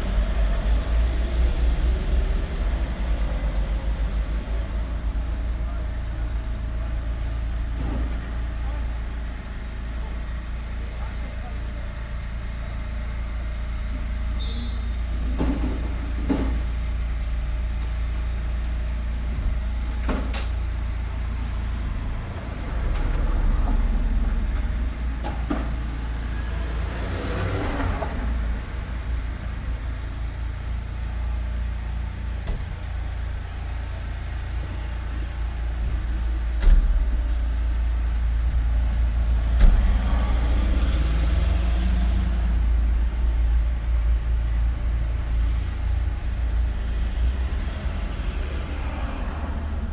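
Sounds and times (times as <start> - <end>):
traffic rumble: 0.0 - 49.9.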